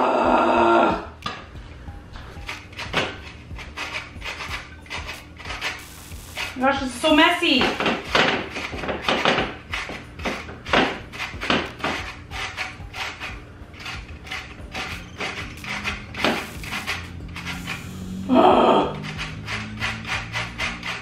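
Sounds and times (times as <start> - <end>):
grater rasping: 2.2 - 21.0.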